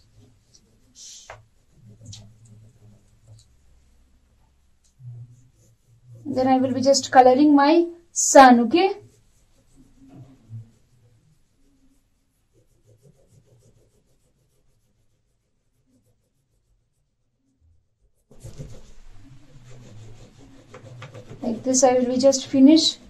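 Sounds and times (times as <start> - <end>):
oil pastel scrubbing on paper: 0.0 - 4.0, 4.8 - 23.0.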